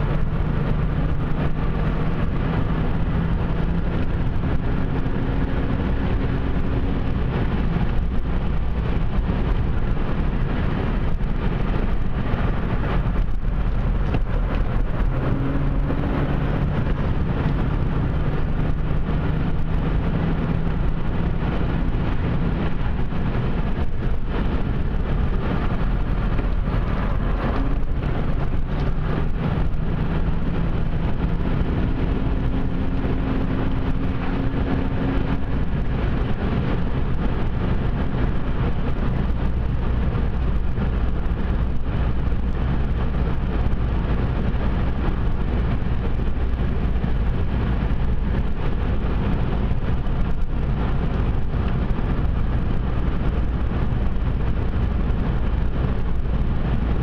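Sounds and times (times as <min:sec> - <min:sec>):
car engine running: 0:00.0 - 0:57.0
tyre and road noise: 0:00.0 - 0:57.0.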